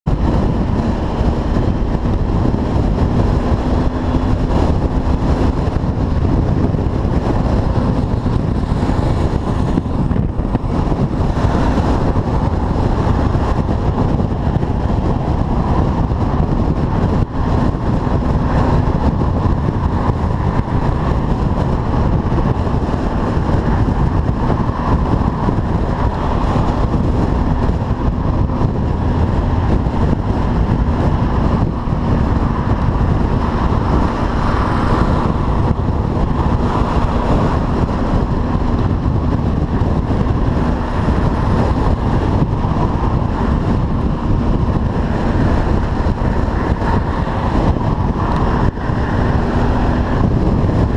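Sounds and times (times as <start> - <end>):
motorcycle engine and road noise: 0.0 - 50.9
wind buffeting microphone: 0.0 - 50.9.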